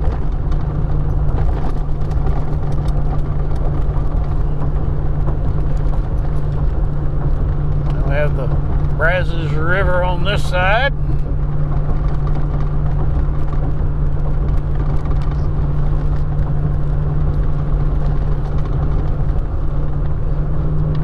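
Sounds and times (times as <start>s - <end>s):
engine and tyre drone in cab: 0.0s - 21.0s.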